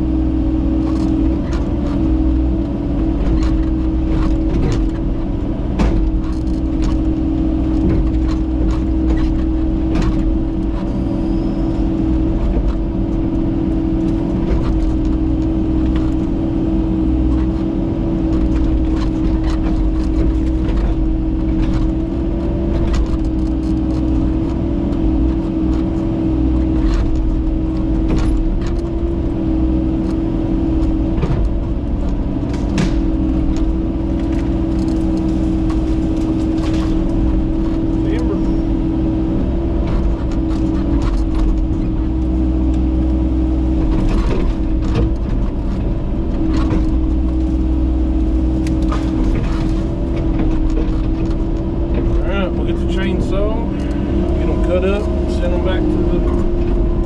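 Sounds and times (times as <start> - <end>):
sharp clicks and knocks: 0.8 - 10.9, 17.0 - 57.0.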